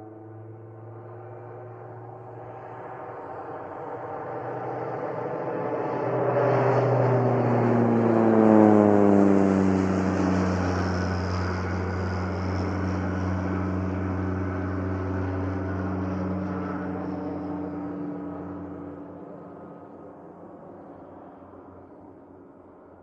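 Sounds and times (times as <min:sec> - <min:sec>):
airplane engine drone: 0:00.0 - 0:23.0.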